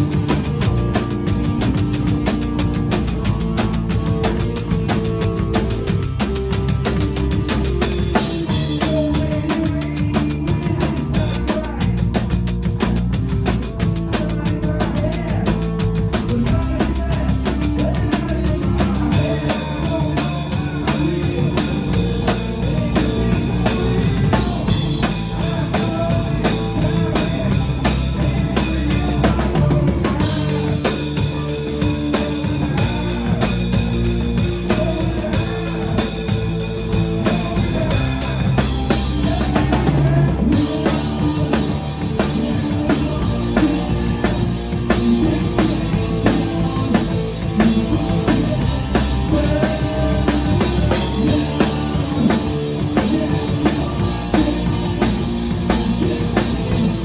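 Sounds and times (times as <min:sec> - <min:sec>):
drum kit: 0:00.0 - 0:57.0
rock band playing live: 0:00.0 - 0:57.0.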